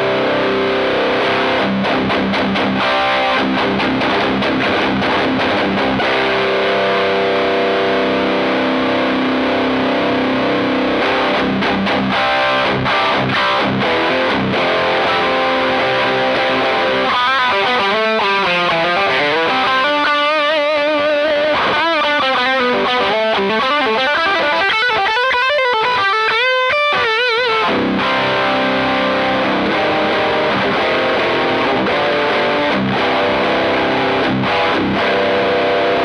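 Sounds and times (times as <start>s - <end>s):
distorted electric guitar: 0.0s - 36.0s.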